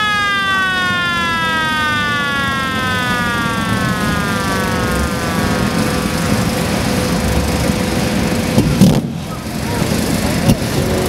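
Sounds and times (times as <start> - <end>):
high whine sliding down: 0.0 - 9.2
rough low rumble: 0.0 - 11.0
steady hum: 0.0 - 11.0.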